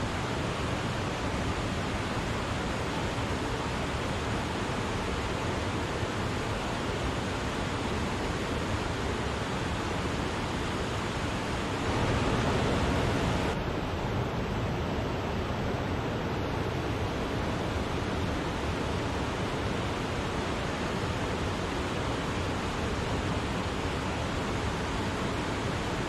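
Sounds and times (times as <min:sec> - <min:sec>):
waterfall rushing: 0:00.0 - 0:13.6, 0:16.2 - 0:26.0.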